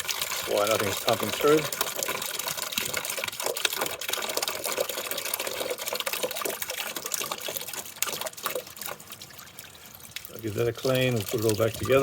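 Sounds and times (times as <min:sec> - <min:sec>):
fluid stream splattering: 0:00.0 - 0:12.0.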